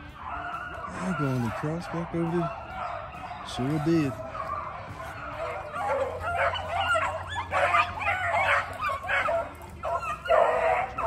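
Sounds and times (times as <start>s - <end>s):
hounds baying and yipping: 0.0s - 11.0s.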